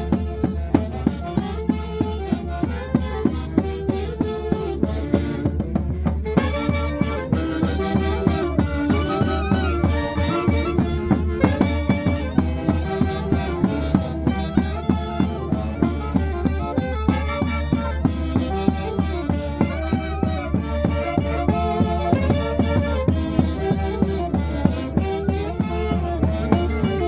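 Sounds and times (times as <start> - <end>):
folk band music with wind instruments: 0.0 - 27.0.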